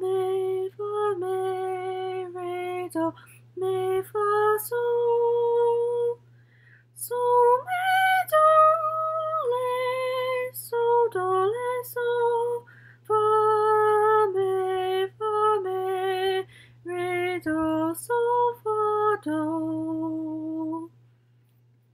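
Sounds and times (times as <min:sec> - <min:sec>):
woman singing unaccompanied: 0:00.0 - 0:06.3, 0:07.0 - 0:21.0.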